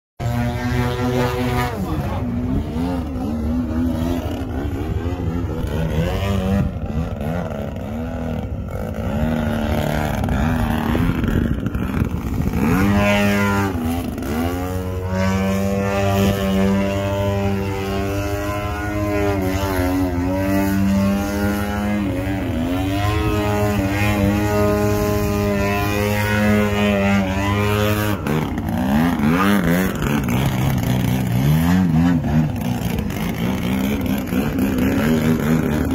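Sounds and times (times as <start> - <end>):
model airplane engine buzzing: 0.2 - 35.9.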